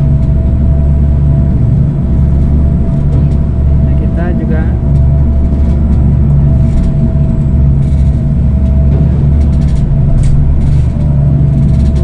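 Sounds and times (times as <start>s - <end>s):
ferry engines droning: 0.0s - 12.0s
water rushing along hull: 0.0s - 12.0s.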